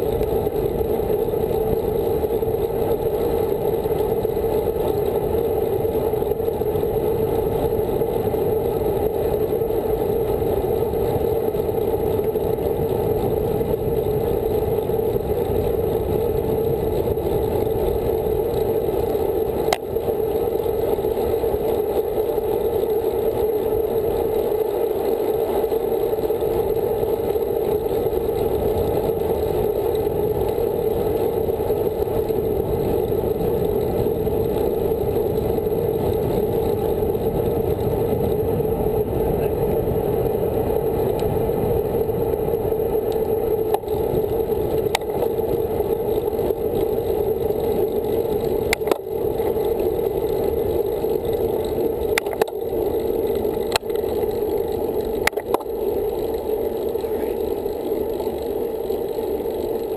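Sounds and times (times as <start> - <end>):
bike tyre noise on asphalt: 0.0 - 59.9.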